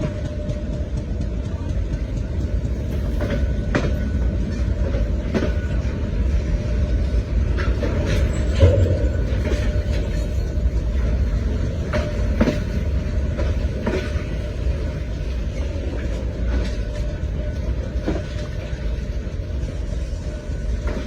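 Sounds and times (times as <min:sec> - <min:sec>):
train rumbling on rails: 0:00.0 - 0:21.0
train wheels knocking and clanking: 0:00.0 - 0:21.0.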